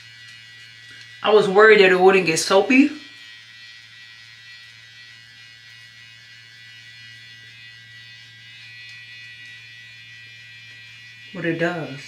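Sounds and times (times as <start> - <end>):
facial cleansing brush buzzing: 0.0 - 12.0.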